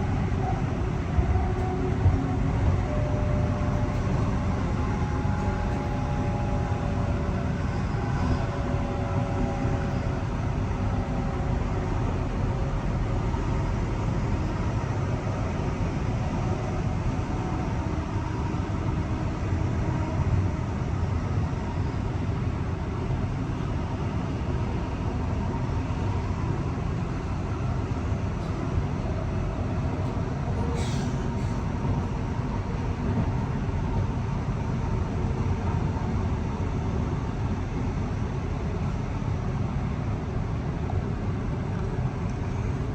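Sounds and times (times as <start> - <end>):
train rumble: 0.0 - 42.9.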